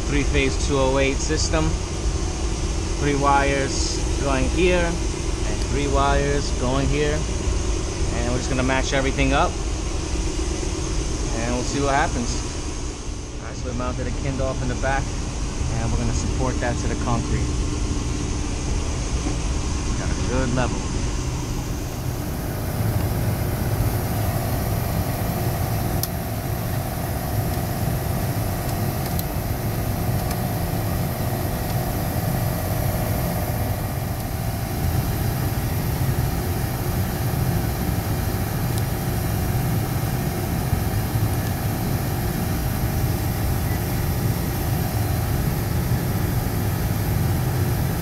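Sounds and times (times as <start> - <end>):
machinery low drone: 0.0 - 48.0.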